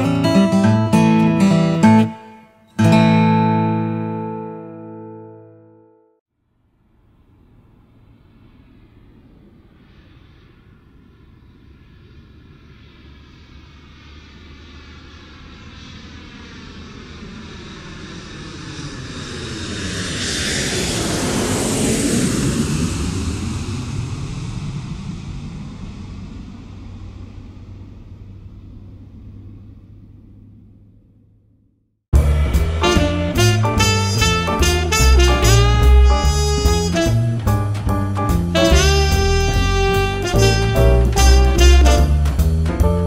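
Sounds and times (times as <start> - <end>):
aircraft engine rushing past: 6.8 - 43.0.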